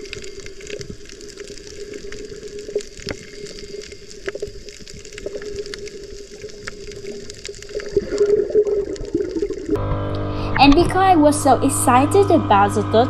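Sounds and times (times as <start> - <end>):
sharp clicks and crackles: 0.0 - 11.1
muffled underwater wash: 0.0 - 13.0.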